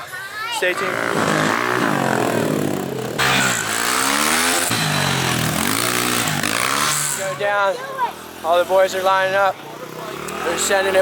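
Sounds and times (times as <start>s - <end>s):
motorbike engines revving: 0.0s - 11.0s.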